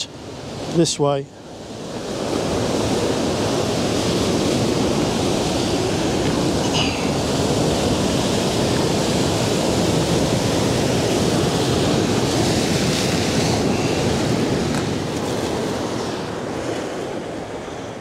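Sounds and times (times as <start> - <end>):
surf breaking over boulders: 2.0 - 18.0.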